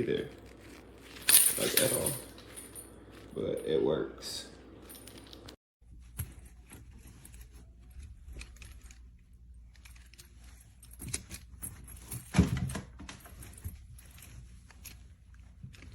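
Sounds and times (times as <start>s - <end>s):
chain clinking and rattling: 0.0s - 3.9s, 4.5s - 15.9s.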